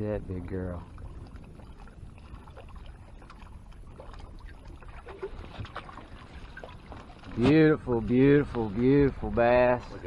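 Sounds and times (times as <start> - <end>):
water sloshing and splashing: 0.0 - 10.0.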